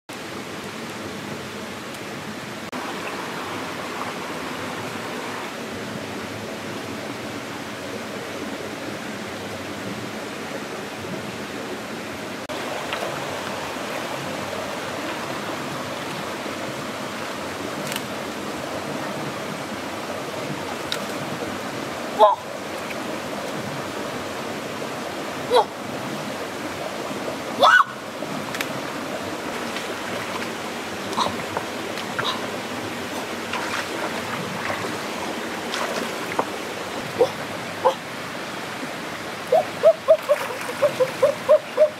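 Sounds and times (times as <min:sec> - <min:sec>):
stream flowing: 0:00.1 - 0:41.9.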